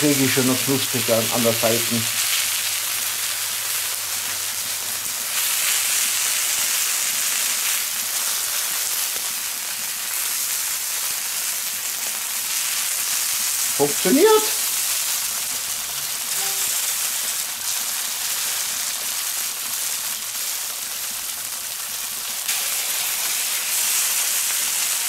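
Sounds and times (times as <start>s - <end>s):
food sizzling on hot plate: 0.0s - 25.0s.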